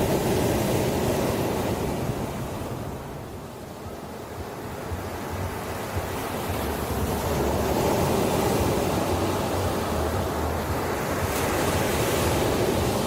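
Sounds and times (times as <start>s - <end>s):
ocean waves washing in: 0.0s - 13.0s.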